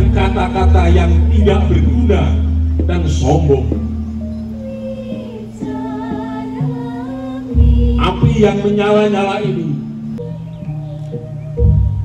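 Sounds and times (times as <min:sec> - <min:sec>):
steady held tone: 0:00.0 - 0:12.0.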